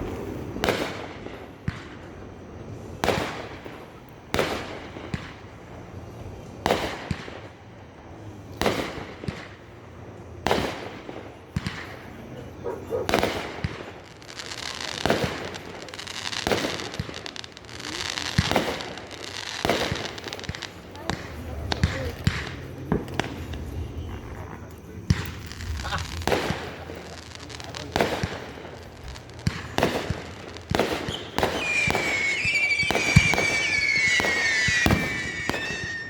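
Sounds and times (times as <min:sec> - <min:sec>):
dense fireworks crackle: 0:00.0 - 0:36.0
fireworks booming: 0:00.0 - 0:36.0.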